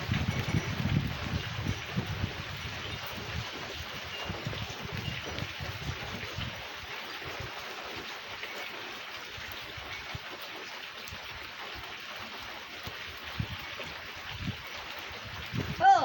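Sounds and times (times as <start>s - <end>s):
rain hissing: 0.0s - 16.0s
raindrops ticking on a surface: 0.0s - 16.0s.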